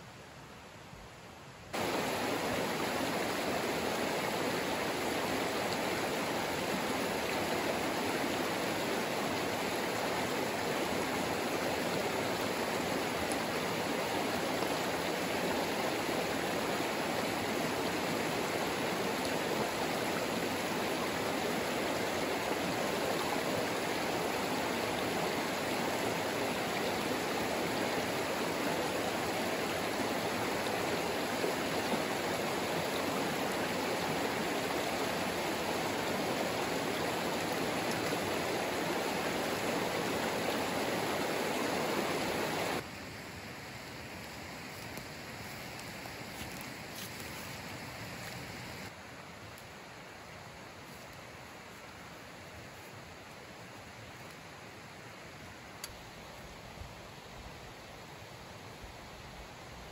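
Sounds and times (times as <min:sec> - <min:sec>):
stream of running water: 0:00.0 - 0:59.9.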